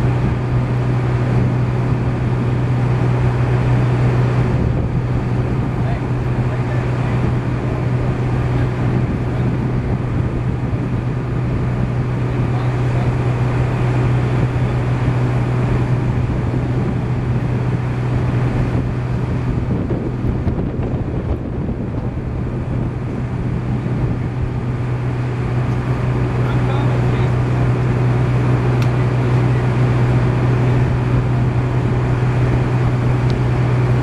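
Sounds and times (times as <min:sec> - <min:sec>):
engine humming steadily: 0:00.0 - 0:34.0.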